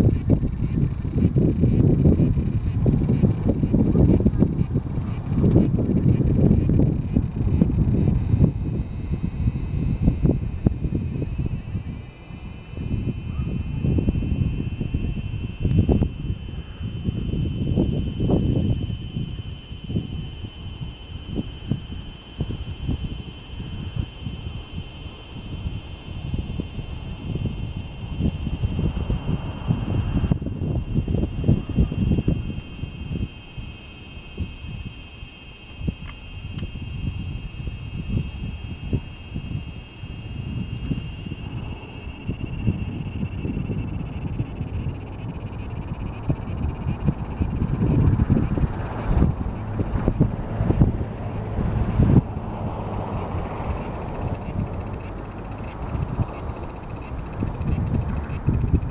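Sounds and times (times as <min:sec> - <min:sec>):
cicada buzzing: 0:00.0 - 0:58.9.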